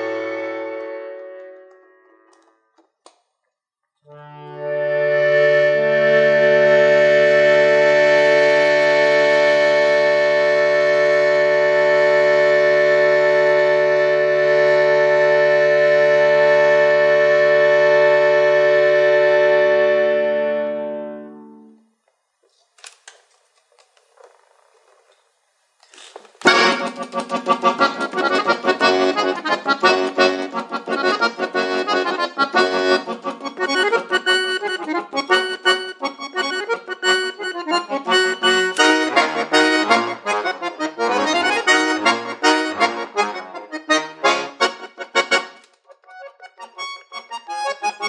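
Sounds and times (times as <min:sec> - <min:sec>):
solo accordion playing: 0:00.0 - 0:02.6, 0:04.1 - 0:21.9, 0:26.4 - 0:48.0.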